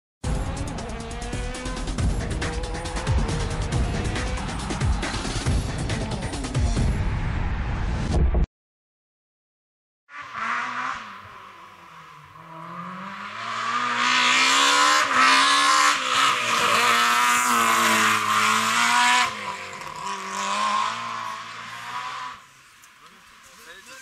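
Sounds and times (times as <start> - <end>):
rally car engine passing: 0.3 - 7.1, 10.1 - 23.9.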